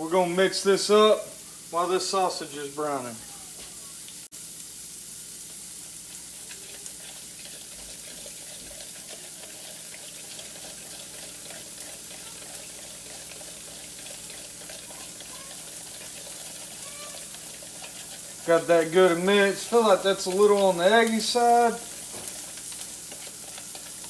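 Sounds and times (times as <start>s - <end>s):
sausage sizzling in a pan: 0.0s - 24.0s.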